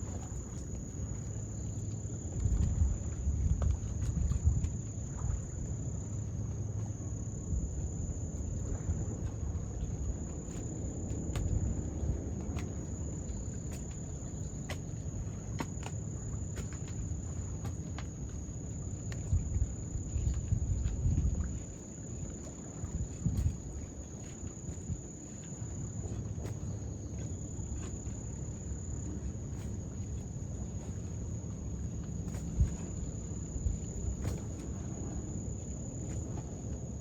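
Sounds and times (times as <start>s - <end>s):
insects trilling: 0.0s - 12.1s, 12.7s - 37.0s.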